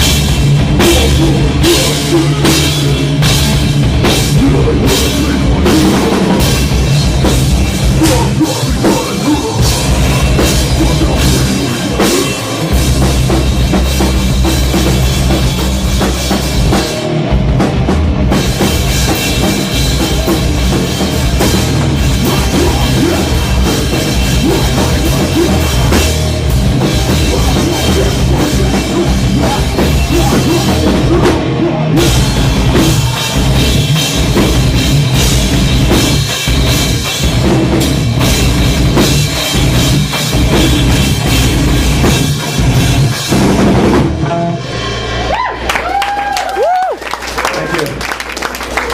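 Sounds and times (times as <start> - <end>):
drum kit: 0.0 - 48.9
loud rock band music: 0.0 - 48.9.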